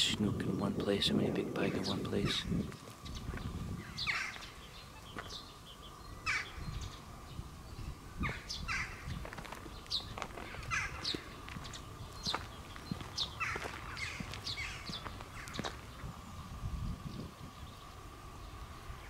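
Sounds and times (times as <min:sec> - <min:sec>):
high bird chirps: 0:01.7 - 0:19.0.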